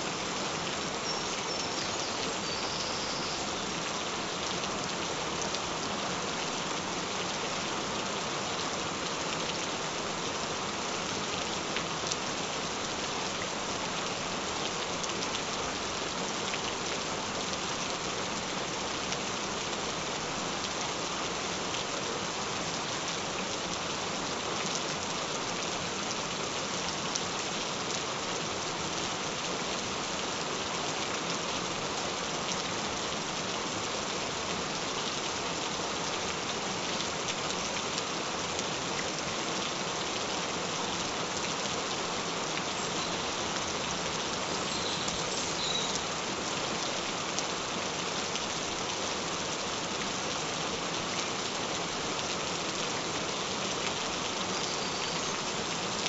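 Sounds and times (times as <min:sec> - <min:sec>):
gentle rain hiss: 0:00.0 - 0:56.0.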